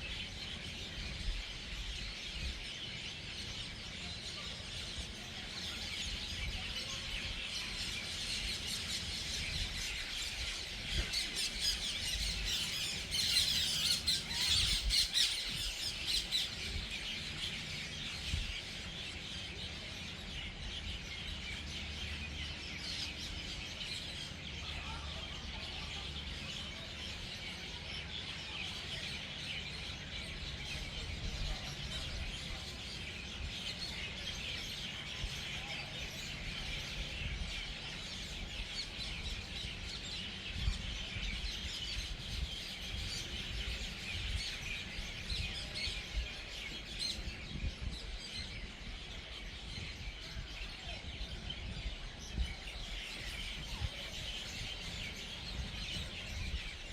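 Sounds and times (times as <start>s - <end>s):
flock of birds chirping: 0.0s - 56.9s.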